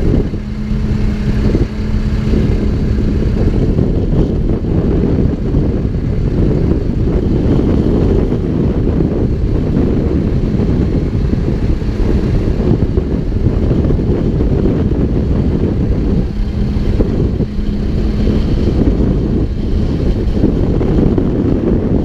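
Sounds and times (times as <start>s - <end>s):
diesel engine rumbling: 0.0s - 22.0s
wind on microphone: 0.0s - 22.0s.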